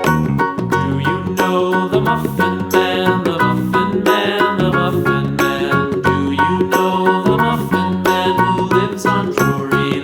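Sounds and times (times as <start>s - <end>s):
light bouncy music: 0.0s - 10.0s.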